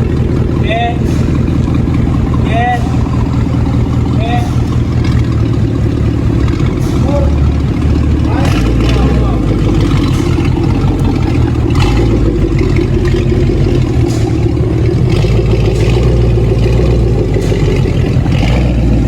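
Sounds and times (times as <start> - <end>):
deep car exhaust note: 0.0 - 19.0.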